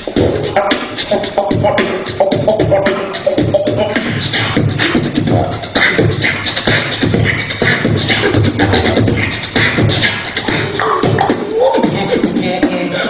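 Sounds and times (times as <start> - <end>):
beatboxing: 0.0 - 13.0.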